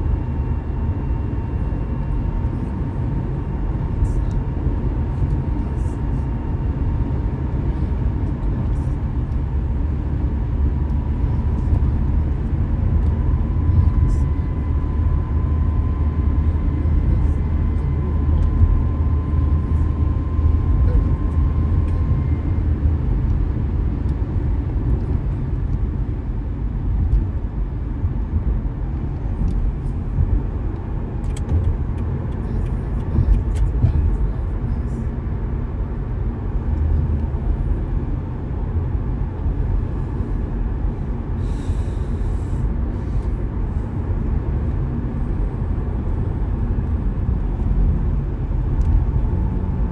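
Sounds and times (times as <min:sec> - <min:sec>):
car driving road noise: 0:00.0 - 0:49.9.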